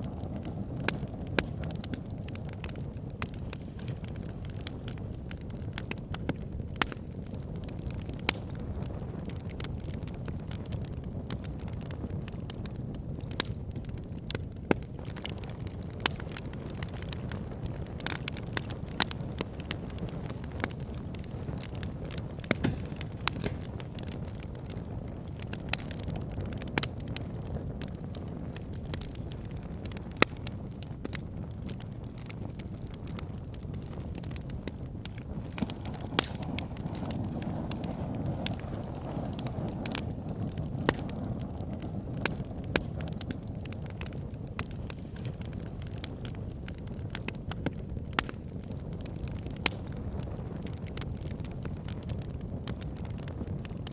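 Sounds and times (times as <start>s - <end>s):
fire crackling and popping: 0.0s - 53.9s
low rumble of flames: 0.0s - 53.9s.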